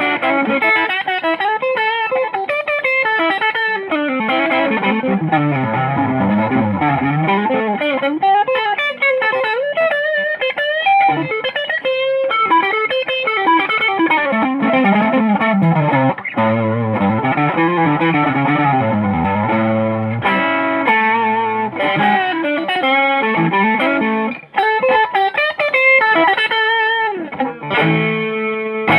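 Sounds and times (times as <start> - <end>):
distorted electric guitar lead: 0.0 - 28.9.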